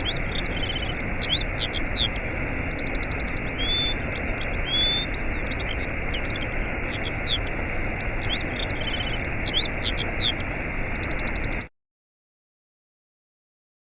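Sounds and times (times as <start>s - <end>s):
waterfall rushing: 0.0s - 11.6s
birds chirping and trilling: 0.0s - 11.7s.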